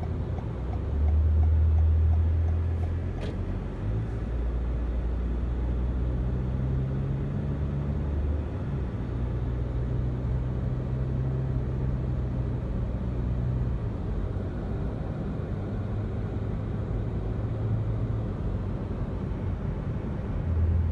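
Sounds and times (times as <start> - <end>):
car engine hum: 0.0 - 20.9.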